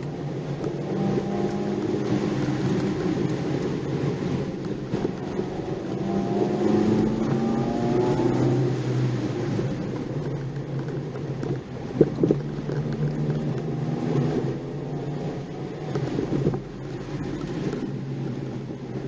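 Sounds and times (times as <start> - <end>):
car engine while driving: 0.0 - 19.0.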